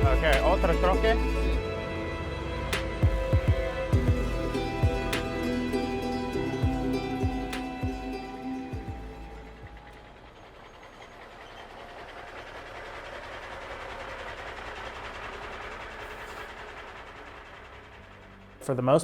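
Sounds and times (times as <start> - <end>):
steady mechanical noise: 0.0 - 19.0.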